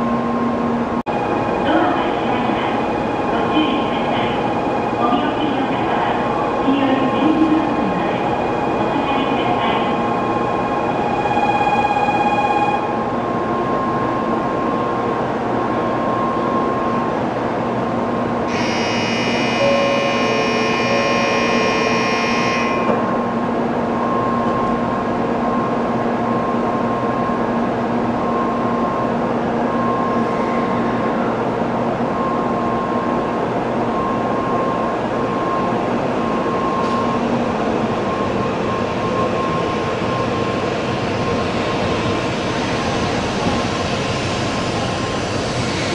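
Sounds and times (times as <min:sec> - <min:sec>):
train noise at station: 0:00.0 - 0:45.9.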